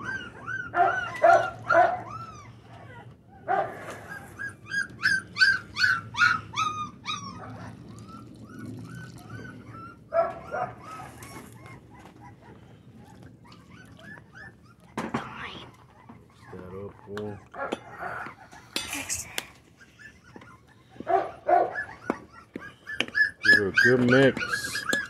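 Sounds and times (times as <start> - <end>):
puppies whining and yelping: 0.0 - 25.0.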